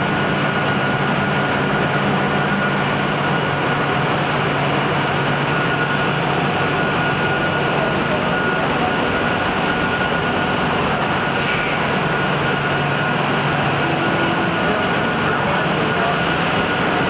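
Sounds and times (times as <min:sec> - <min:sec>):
high machine whine: 0:00.0 - 0:17.0
low machine hum: 0:00.0 - 0:17.0
machinery mechanical rush: 0:00.0 - 0:17.0.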